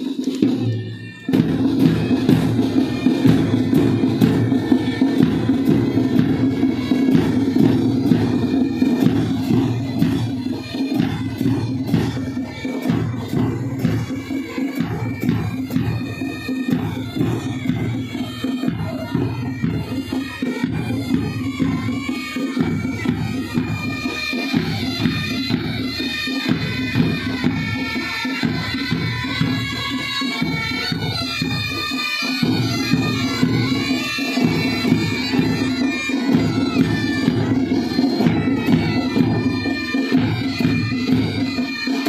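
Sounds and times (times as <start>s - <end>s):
bagpipe drone: 0.0s - 42.0s
bagpipes playing a tune: 0.0s - 42.0s.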